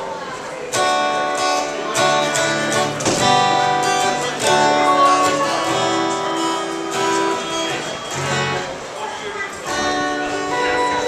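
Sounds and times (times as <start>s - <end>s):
acoustic guitar strumming: 0.6s - 11.0s.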